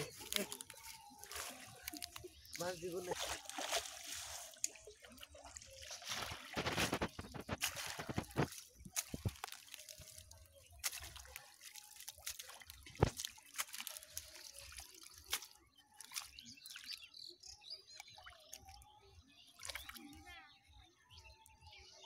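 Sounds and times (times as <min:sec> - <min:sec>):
water dripping and trickling: 0:00.0 - 0:20.3.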